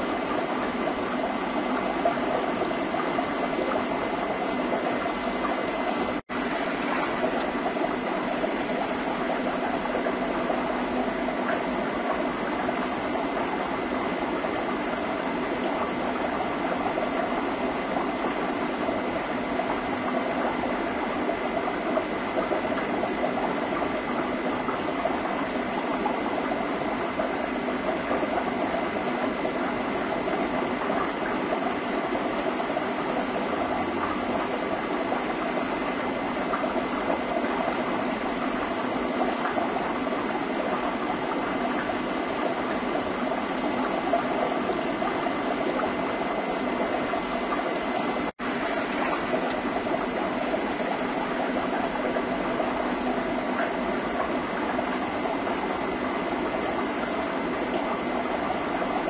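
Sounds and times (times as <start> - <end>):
bubbling water rushing: 0.0 - 59.0.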